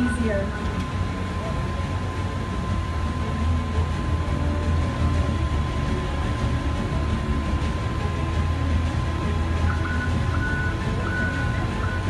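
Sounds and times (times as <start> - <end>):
diesel engine deep rumble: 0.0 - 12.0.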